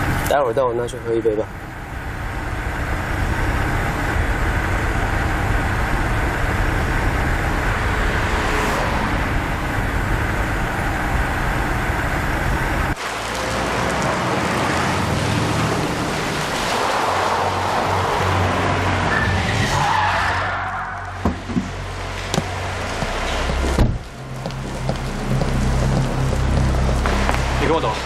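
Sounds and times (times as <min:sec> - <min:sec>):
traffic noise with low hum: 0:00.0 - 0:28.0.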